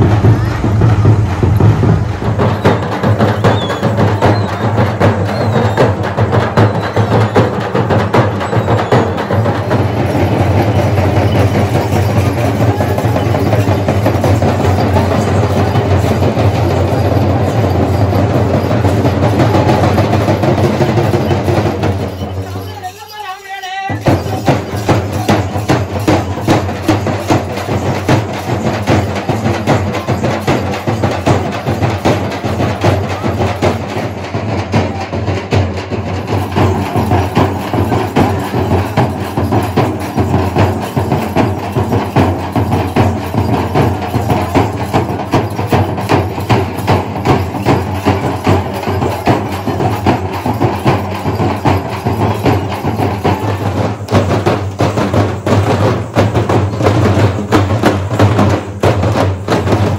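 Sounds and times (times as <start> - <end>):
frame drums beaten with sticks: 0.0 - 59.9.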